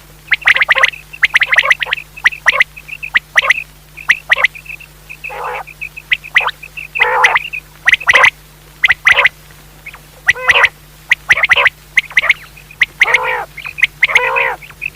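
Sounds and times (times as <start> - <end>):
faint steady hum: 0.0 - 14.9
quail calling: 0.3 - 14.9.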